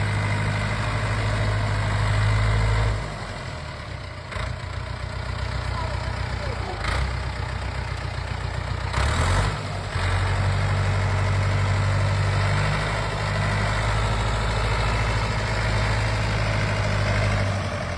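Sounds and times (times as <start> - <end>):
tractor engine idling: 0.0 - 17.9.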